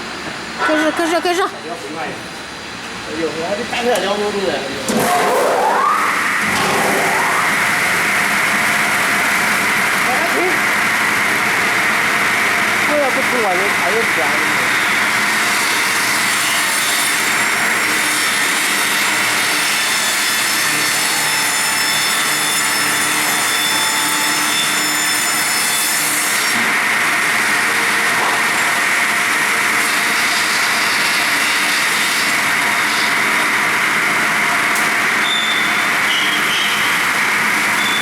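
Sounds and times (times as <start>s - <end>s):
circular saw cutting log: 4.9s - 38.0s.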